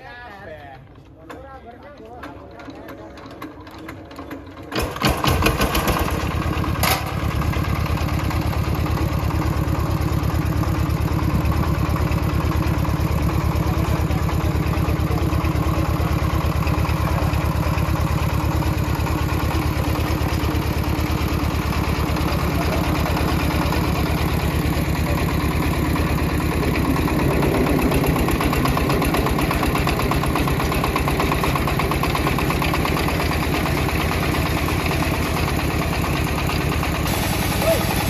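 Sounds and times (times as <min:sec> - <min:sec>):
sawmill engine starting and running: 0:00.0 - 0:38.0.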